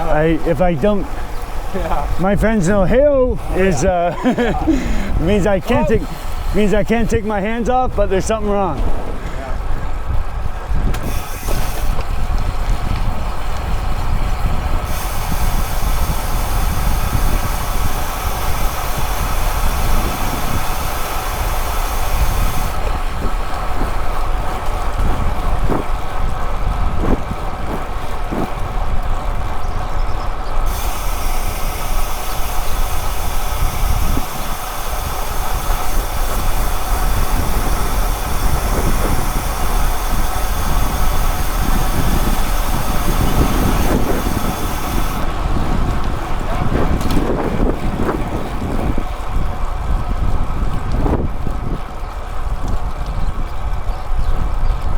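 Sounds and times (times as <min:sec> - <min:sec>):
road noise: 0:00.0 - 0:54.2
wind rushing over microphone: 0:00.0 - 0:54.9.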